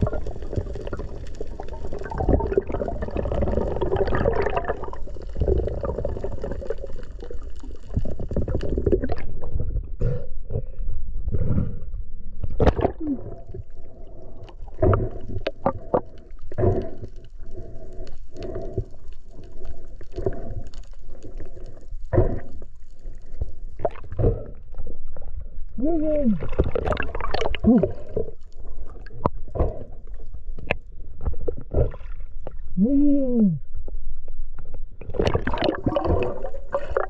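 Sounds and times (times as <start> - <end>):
low rumble of moving water: 0.0 - 37.0.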